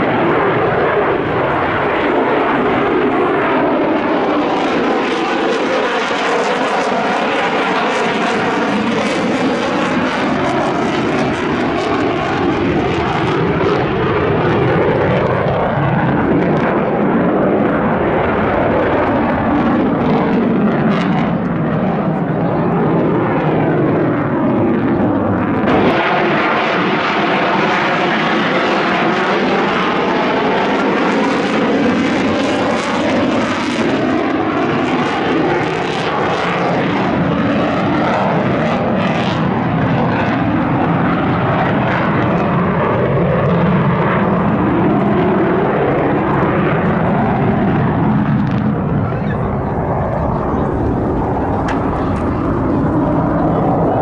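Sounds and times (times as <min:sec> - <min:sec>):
jet engine roaring: 0:00.0 - 0:54.0.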